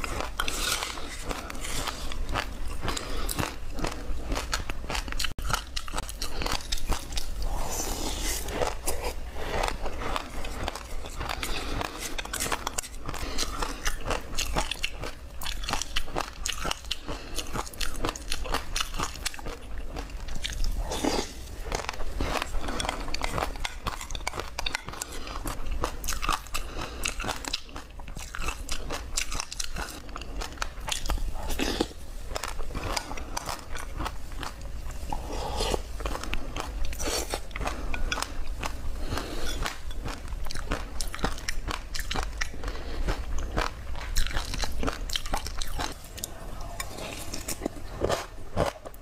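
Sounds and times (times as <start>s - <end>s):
chewing crunchy seeds: 0.0s - 49.0s.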